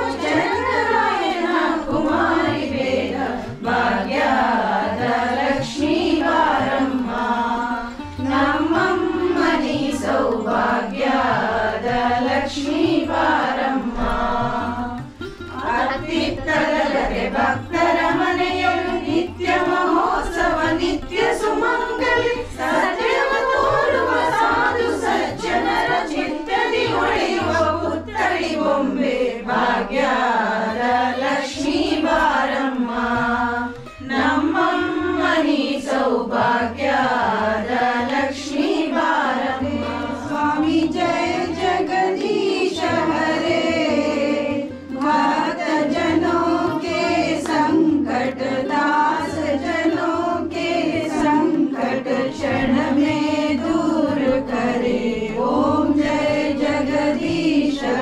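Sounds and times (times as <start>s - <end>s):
women singing devotional song: 0.0s - 58.0s.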